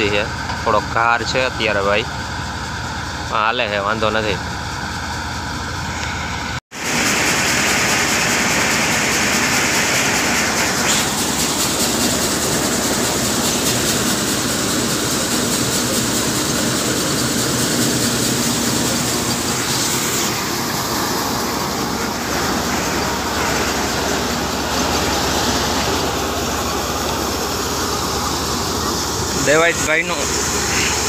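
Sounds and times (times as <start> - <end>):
thresher running: 2.1 - 31.0.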